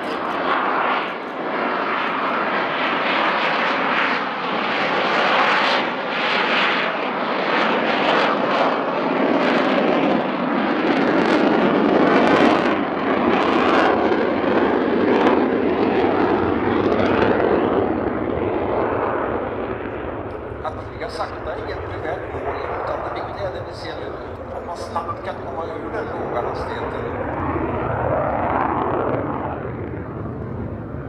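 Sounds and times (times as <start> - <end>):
jet engine roar with crackling: 0.0 - 31.0.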